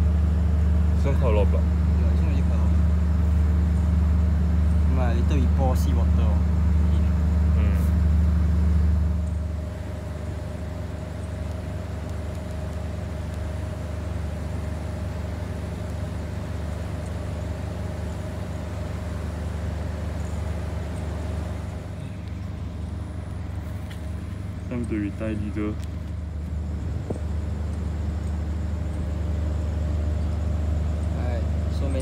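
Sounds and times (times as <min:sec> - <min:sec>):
faint steady hum: 0:00.0 - 0:32.0
low outdoor rumble: 0:00.0 - 0:32.0.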